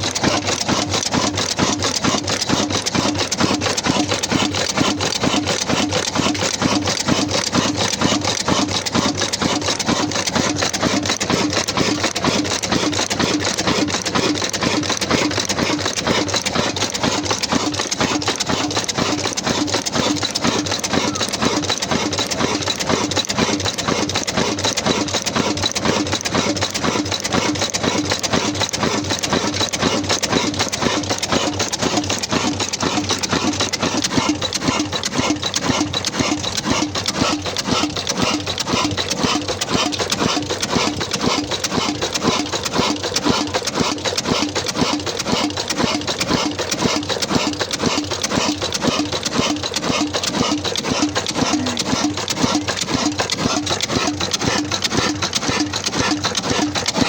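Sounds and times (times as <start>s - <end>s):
diesel engine rhythmic beat: 0.0s - 57.0s.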